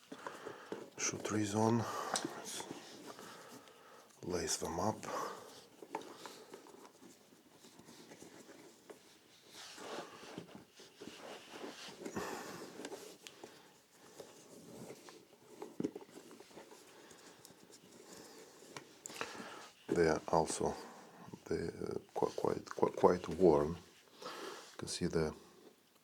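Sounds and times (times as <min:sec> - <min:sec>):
laces and leather rustling: 0:00.0 - 0:24.2.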